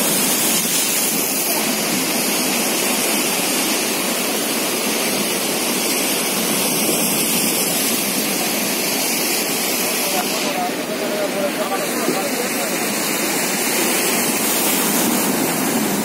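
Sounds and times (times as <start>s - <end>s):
waves breaking on rocky shore: 0.0s - 16.0s.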